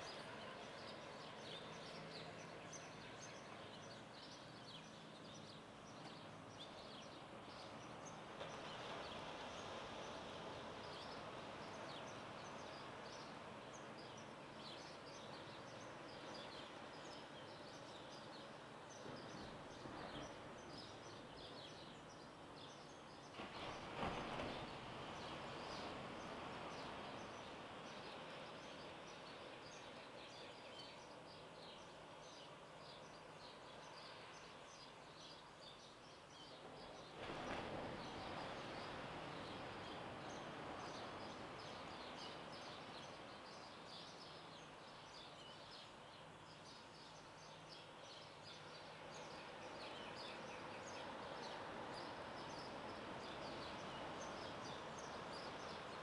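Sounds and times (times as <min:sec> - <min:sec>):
small birds chirping: 0:00.0 - 0:56.0
steady noise wash: 0:00.0 - 0:56.0.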